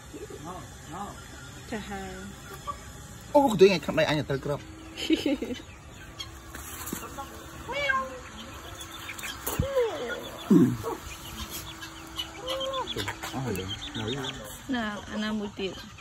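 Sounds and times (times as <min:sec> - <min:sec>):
faint steady hum: 0:00.0 - 0:16.0
hens calling: 0:00.0 - 0:16.0.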